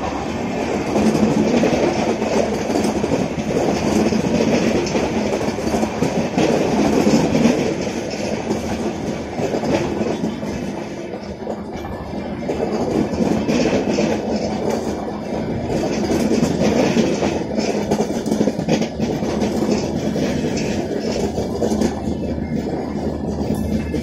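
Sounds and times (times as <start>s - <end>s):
train rumbling past: 0.0s - 24.0s
wheels clattering over rail joints: 0.0s - 24.0s.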